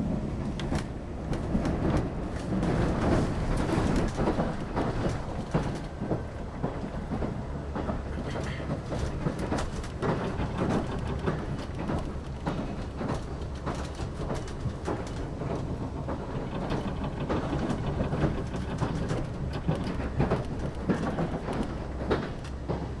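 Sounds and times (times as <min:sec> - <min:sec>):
train running rumble: 0:00.0 - 0:23.0
wheels clicking and rattling on rails: 0:00.0 - 0:23.0.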